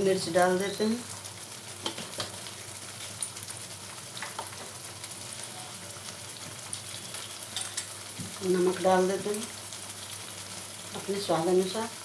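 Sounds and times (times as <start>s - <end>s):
paste sizzling in a frying pan: 0.0s - 12.0s.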